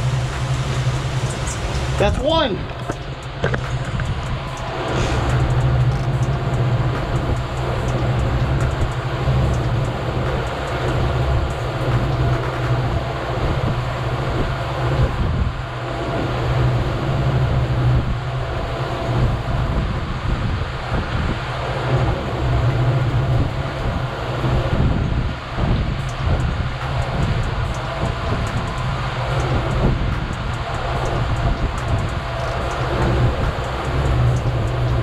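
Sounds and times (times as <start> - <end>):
outboard motor drone: 0.0 - 35.0
water rushing past hull: 0.0 - 35.0
wind: 0.0 - 35.0.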